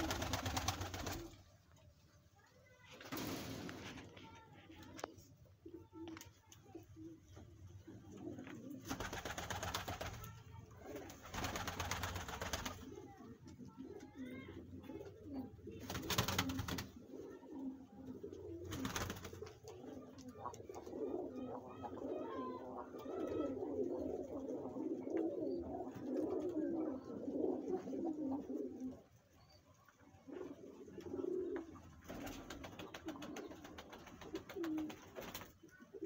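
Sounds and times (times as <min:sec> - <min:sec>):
pigeons cooing: 0:00.0 - 0:01.4, 0:05.0 - 0:10.0, 0:10.7 - 0:36.0.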